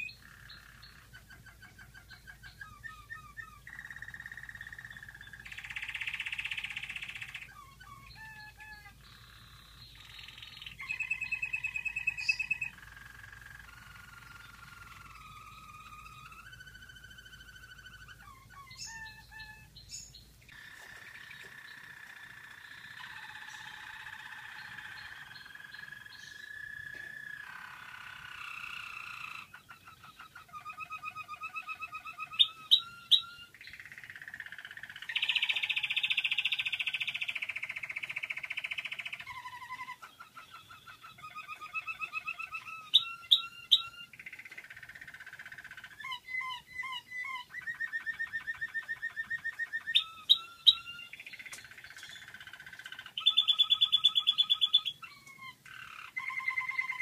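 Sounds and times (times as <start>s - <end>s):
canary singing trills: 0.0s - 57.0s
loud sharp bird notes: 0.0s - 57.0s.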